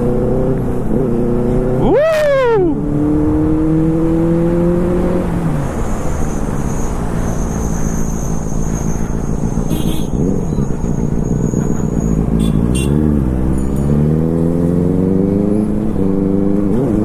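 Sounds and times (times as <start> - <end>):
motorcycle engine revving: 0.0 - 17.0
wind and road noise: 0.0 - 17.0.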